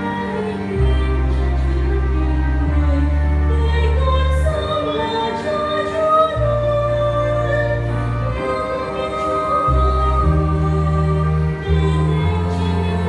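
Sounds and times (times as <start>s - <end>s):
children's choir singing hymn: 0.0s - 13.0s
keyboard accompaniment: 0.0s - 13.0s.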